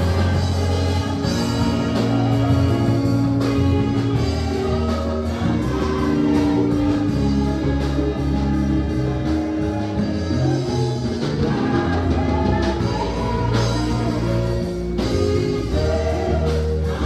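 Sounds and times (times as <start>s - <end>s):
people singing: 0.0s - 17.0s
worship band playing: 0.0s - 17.0s.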